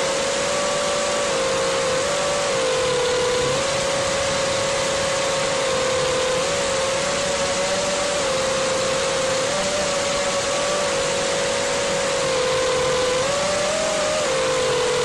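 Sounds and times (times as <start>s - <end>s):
drone motors whining: 0.0s - 15.0s
rushing hiss of wind: 0.0s - 15.0s.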